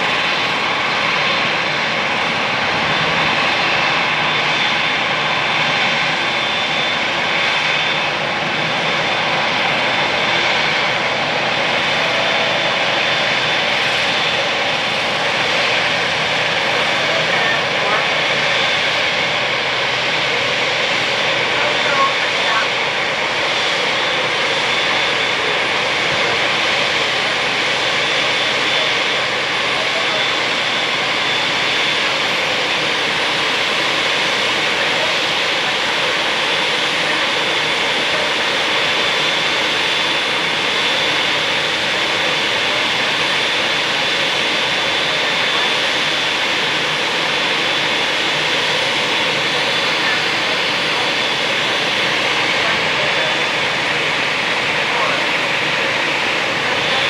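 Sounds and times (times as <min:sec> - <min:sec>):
aircraft turbine engines running: 0:00.0 - 0:57.0
high-pitched turbine whine: 0:00.0 - 0:57.0.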